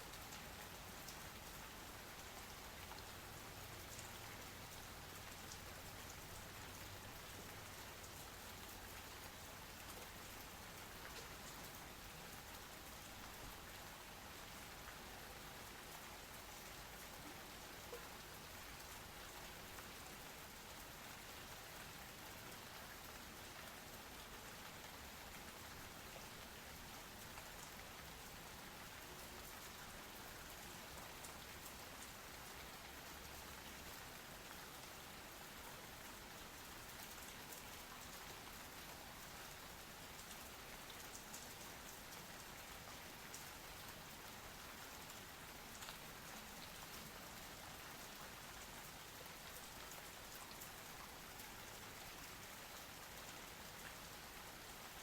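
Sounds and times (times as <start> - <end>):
raindrops ticking on surface: 0.0 - 55.0
steady rain: 0.0 - 55.0.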